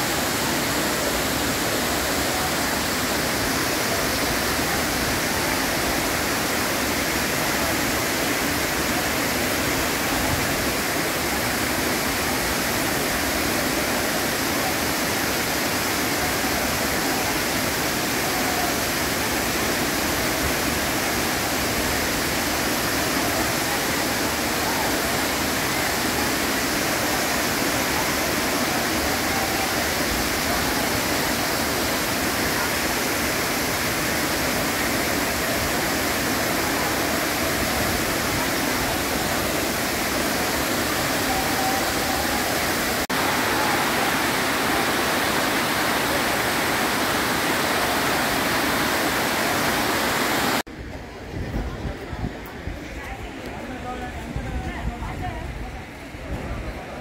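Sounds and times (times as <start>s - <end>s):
waterfall pouring and splashing: 0.0s - 50.7s.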